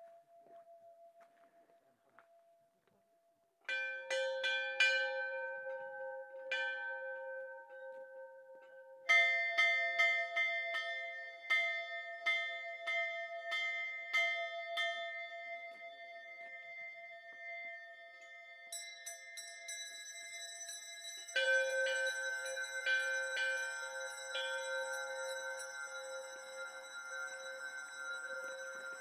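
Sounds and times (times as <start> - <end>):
bells struck and ringing: 0.0 - 1.6, 3.7 - 29.0.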